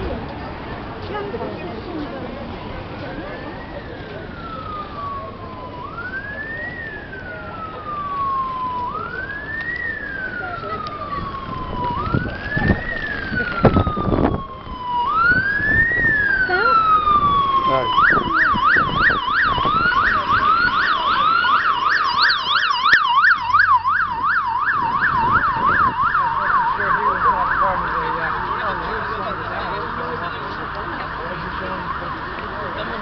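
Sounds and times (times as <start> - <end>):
emergency siren wailing and yelping: 2.8 - 33.0.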